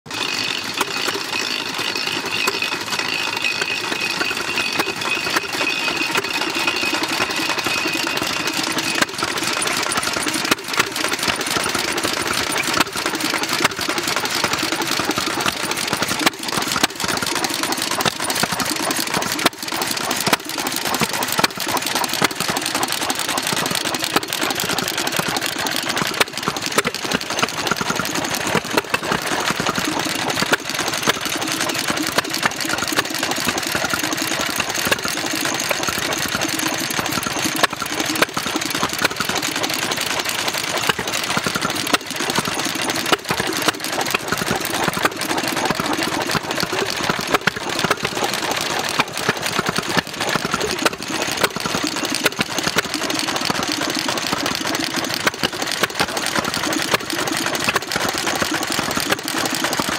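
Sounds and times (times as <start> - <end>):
stationary engines clattering: 0.1 - 59.9.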